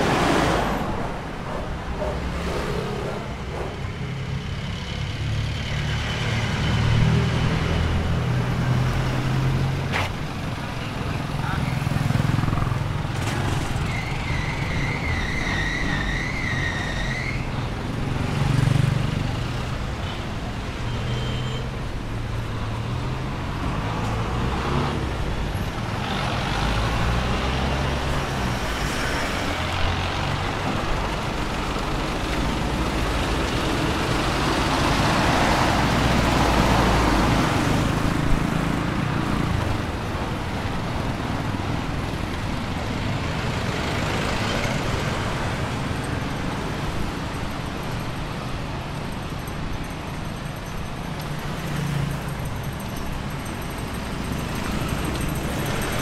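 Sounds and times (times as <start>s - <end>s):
traffic passing: 0.0s - 56.0s.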